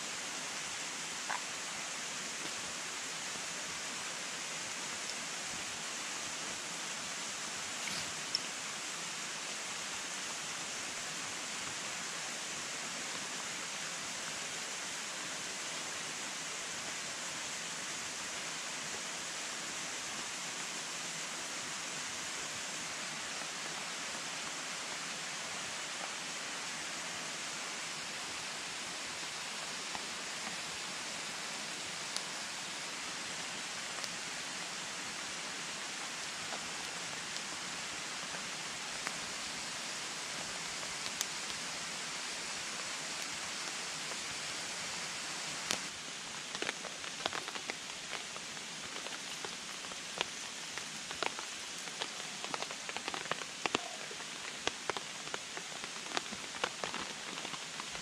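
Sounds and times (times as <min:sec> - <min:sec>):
mountain stream rushing: 0:00.0 - 0:58.0
campfire crackling: 0:00.1 - 0:58.0.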